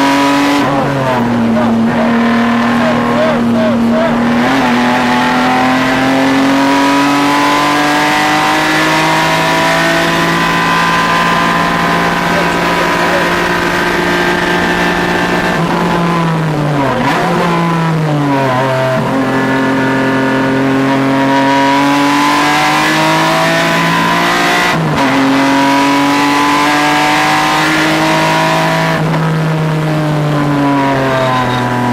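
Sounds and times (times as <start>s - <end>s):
racing car engine revving: 0.0s - 31.9s.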